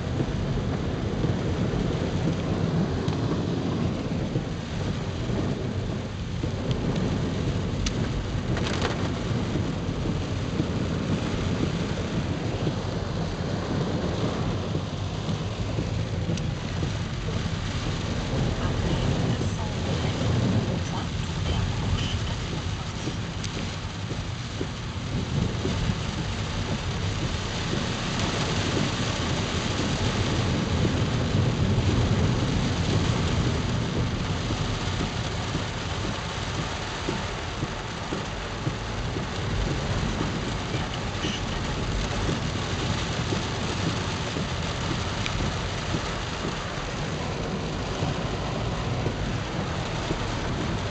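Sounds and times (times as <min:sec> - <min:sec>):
heavy rain drumming on car roof: 0:00.0 - 0:50.9
steady low rumble: 0:00.0 - 0:50.9.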